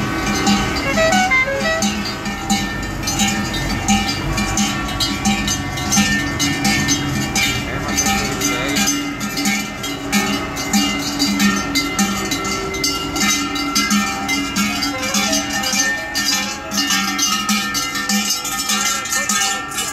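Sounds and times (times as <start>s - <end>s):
cowbells clanging: 0.0s - 19.9s.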